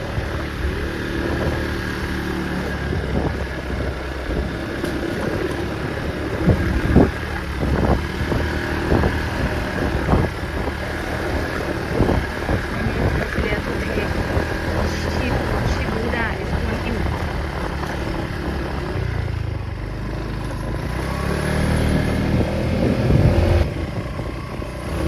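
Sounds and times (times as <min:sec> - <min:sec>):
wind noise: 0:00.0 - 0:19.8, 0:20.6 - 0:25.0
small vehicle engine running: 0:00.0 - 0:25.0.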